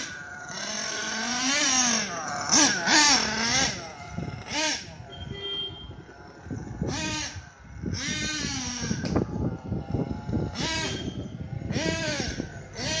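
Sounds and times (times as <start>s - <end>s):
toy truck engine revving: 0.0s - 5.2s, 5.9s - 13.0s.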